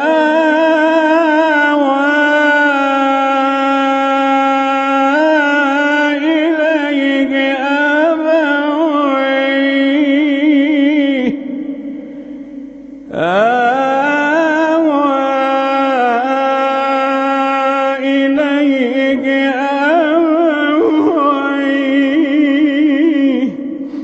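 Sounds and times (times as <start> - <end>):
man chanting melodically: 0.0 - 24.0.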